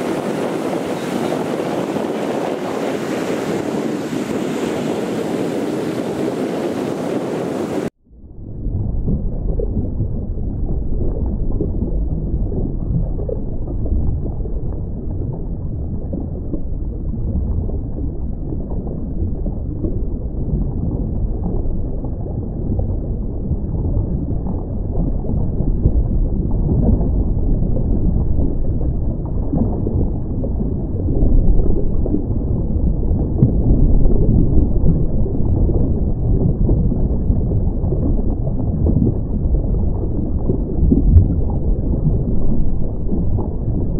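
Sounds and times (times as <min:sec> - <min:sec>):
muffled underwater rushing: 0:00.0 - 0:43.9.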